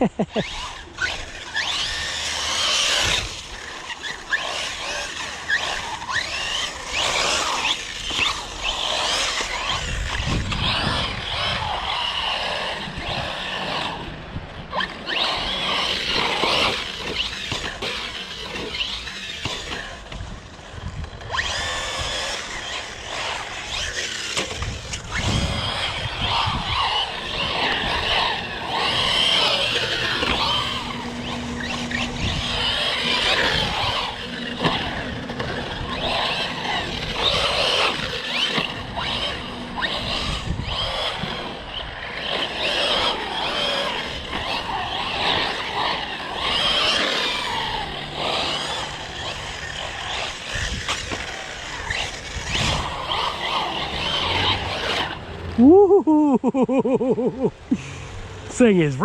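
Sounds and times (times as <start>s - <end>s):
rc car motor whine: 0.0s - 59.0s
tyres squealing on pavement: 0.4s - 13.9s, 21.3s - 55.8s.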